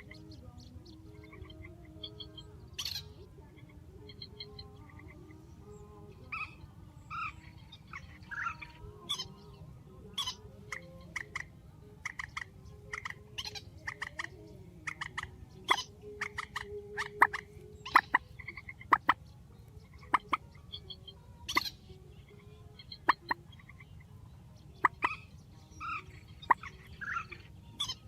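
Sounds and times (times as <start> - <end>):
bird calling: 0.0 - 28.0.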